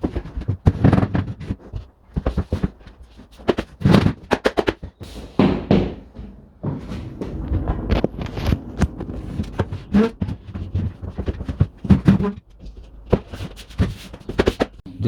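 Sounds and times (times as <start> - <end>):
plasterboard knocks and scrapes: 0.0 - 14.8.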